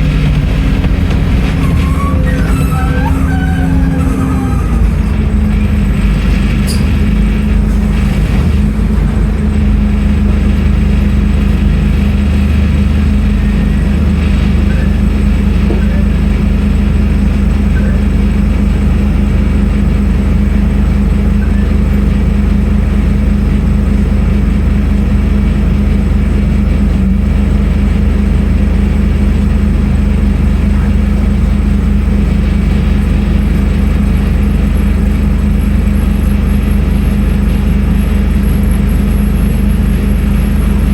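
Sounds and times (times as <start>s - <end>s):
bus diesel engine droning: 0.0s - 40.9s.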